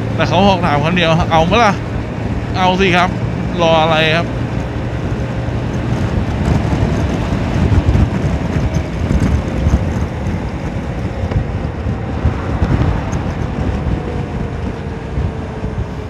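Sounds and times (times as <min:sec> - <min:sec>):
wind buffeting microphone: 0:00.0 - 0:16.0
scooter engine: 0:01.2 - 0:16.0.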